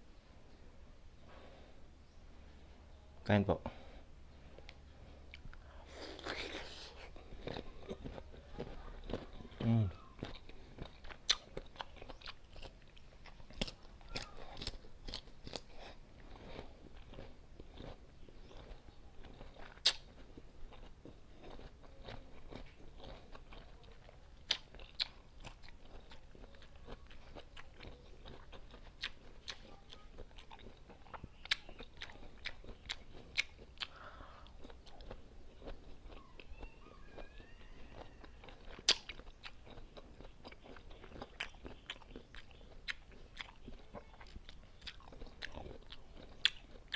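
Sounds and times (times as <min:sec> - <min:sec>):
crunching and chewing mango: 0:01.2 - 0:46.9.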